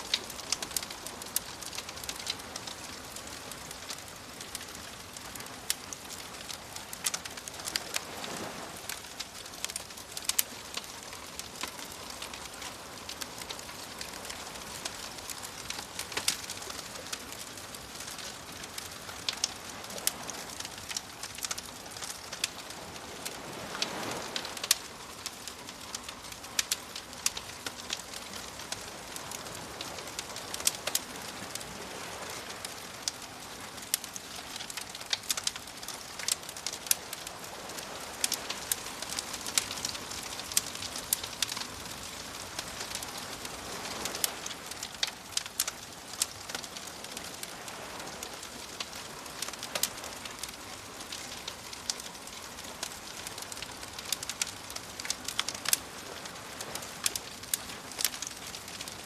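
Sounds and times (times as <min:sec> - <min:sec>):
soft ocean waves: 0:00.0 - 0:59.0
wood fire crackling and popping: 0:00.0 - 0:59.0.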